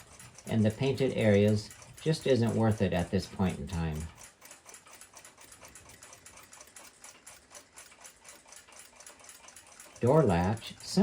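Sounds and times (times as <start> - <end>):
clock ticking faintly: 0.0 - 11.0.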